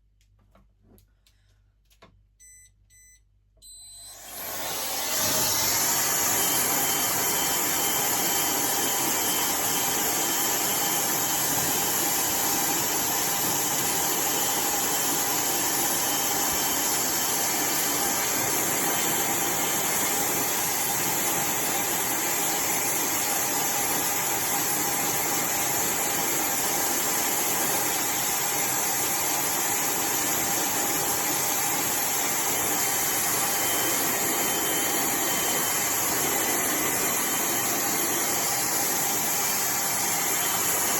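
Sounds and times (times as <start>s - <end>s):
hair dryer running: 3.6s - 40.9s.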